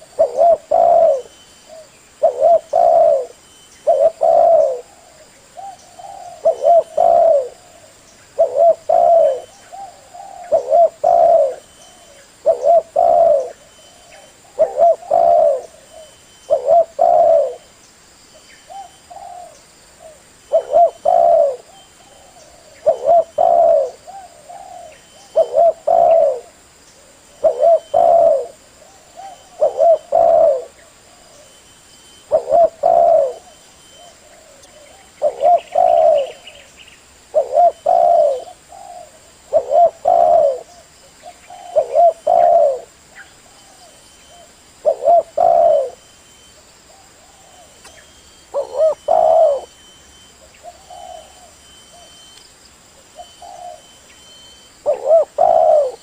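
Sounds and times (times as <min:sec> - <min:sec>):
dove cooing: 0:00.0 - 0:17.7, 0:18.7 - 0:36.7, 0:37.3 - 0:52.3, 0:53.0 - 0:56.0.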